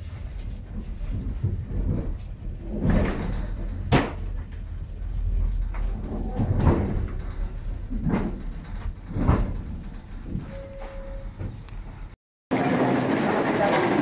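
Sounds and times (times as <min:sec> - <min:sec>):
train carriage rumbling: 0:00.0 - 0:14.0
heavy knocks and clunks: 0:00.8 - 0:12.2.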